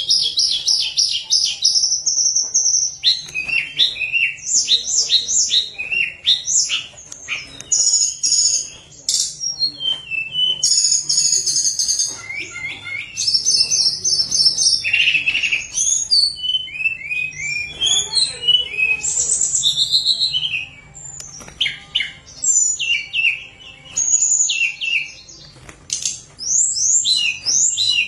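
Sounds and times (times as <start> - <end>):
bird singing whistles and trills: 0.0 - 28.0.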